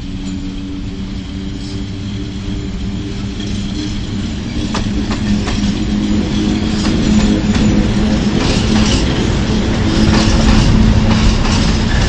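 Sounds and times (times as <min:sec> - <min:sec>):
electric locomotive hum and rumble: 0:00.0 - 0:12.0.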